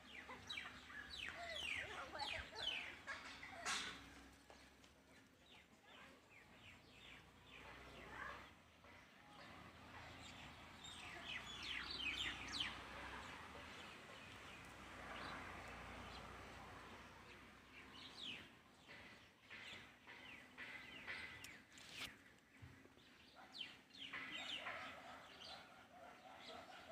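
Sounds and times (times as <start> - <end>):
birds chirping: 0.0 - 26.9.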